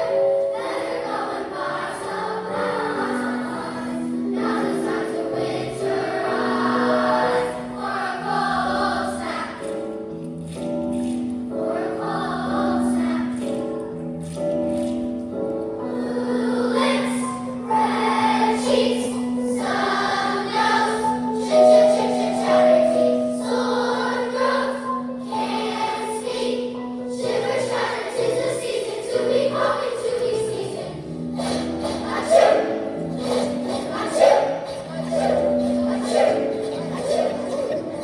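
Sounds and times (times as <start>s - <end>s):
choir singing: 0.0s - 9.7s, 11.6s - 13.4s, 15.8s - 38.0s.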